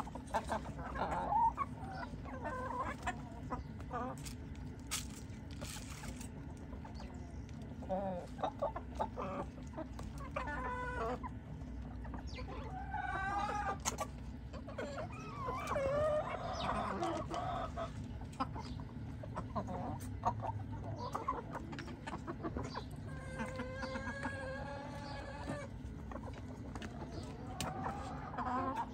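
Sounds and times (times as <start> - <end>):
chickens clucking: 0.0 - 28.9
drawn-out wavering chicken calls: 0.0 - 28.9.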